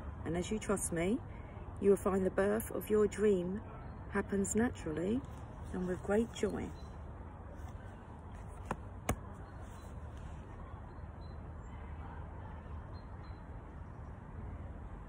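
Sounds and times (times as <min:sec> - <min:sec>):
low outdoor background rumble: 0:00.0 - 0:15.0.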